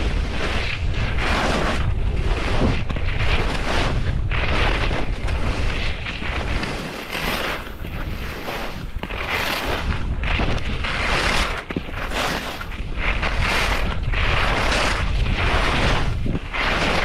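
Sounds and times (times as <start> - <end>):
skis scraping over snow: 0.0 - 17.0
wind noise on microphone: 0.0 - 17.0.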